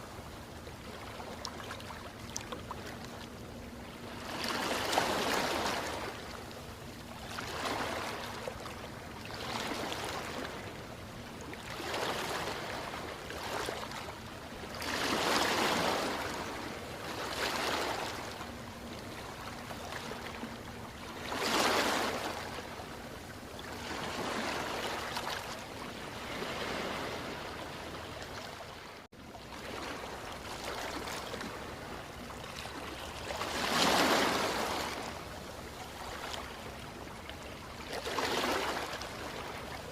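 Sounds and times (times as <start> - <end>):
ocean waves washing in: 0.0 - 39.9
waves breaking: 0.0 - 39.9.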